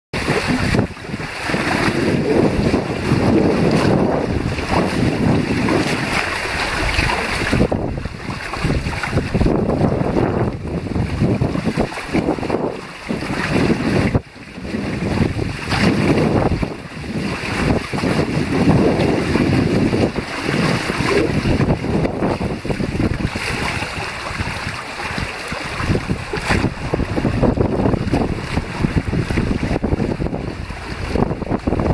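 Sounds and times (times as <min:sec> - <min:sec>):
water splashing against hulls: 0:00.1 - 0:31.9
wind buffeting microphone: 0:00.1 - 0:31.9.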